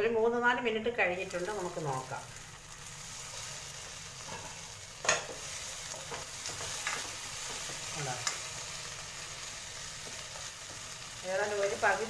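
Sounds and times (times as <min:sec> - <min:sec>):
vegetables sizzling in oil: 0:00.2 - 0:12.0.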